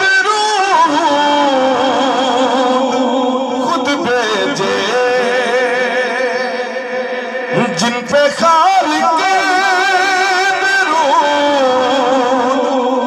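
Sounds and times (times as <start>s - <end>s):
man singing melismatic notes: 0.0s - 13.0s.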